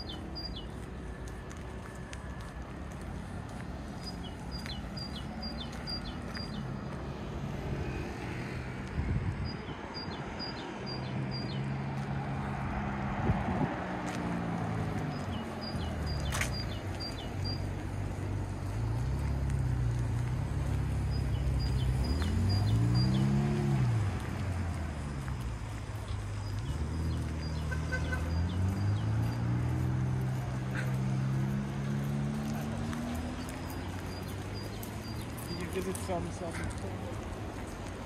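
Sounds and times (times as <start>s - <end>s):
passing motor traffic hum: 0.0s - 38.0s.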